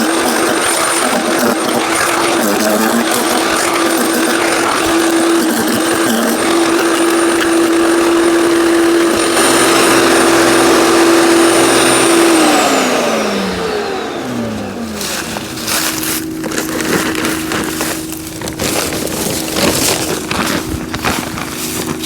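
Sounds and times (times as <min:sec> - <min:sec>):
chipper grinding branches: 0:00.0 - 0:22.0
wood chipper motor whine: 0:00.0 - 0:22.0.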